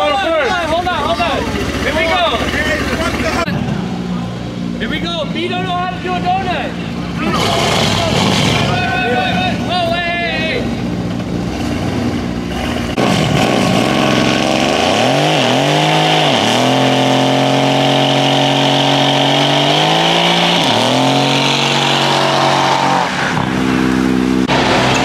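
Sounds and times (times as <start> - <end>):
car engine revving: 0.5 - 25.0.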